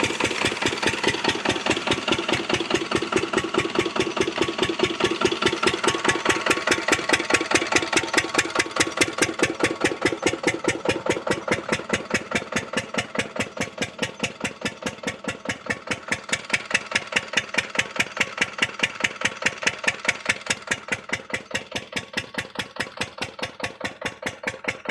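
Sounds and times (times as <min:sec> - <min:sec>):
diesel pump engine chugging: 0:00.0 - 0:24.9.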